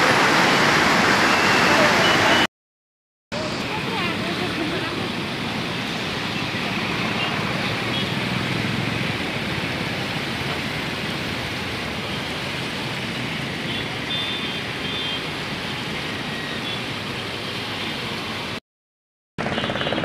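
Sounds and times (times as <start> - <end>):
rushing flooded river: 0.0 - 2.5, 3.4 - 18.6.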